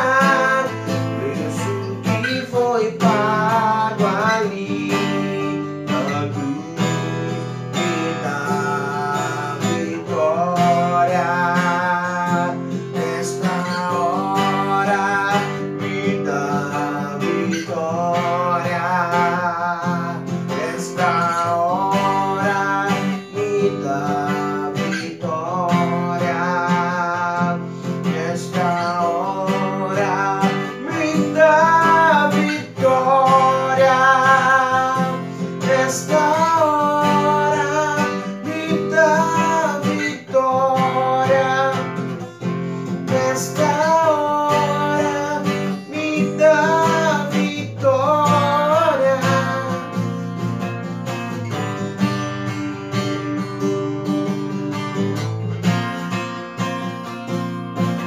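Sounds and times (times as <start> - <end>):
man singing a hymn: 0.0 - 50.2
acoustic guitar strumming: 0.0 - 58.0.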